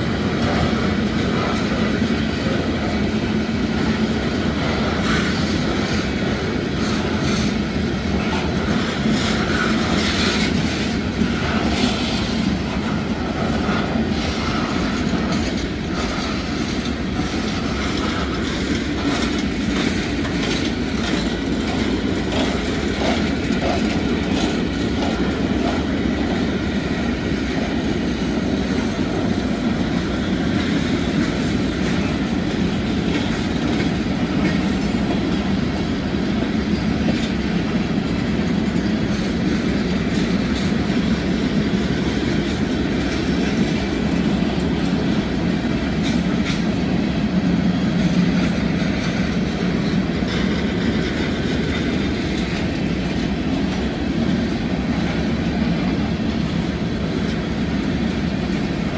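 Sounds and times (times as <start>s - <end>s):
steel wheels clacking on rails: 0.0s - 58.9s.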